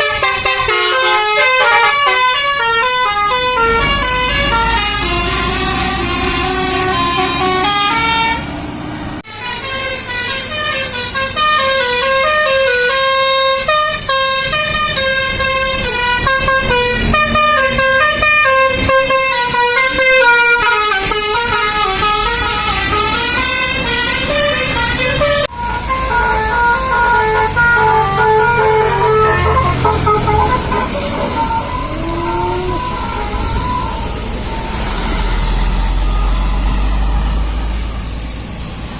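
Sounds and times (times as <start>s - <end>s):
multi-tone musical bus horns: 0.0s - 38.8s.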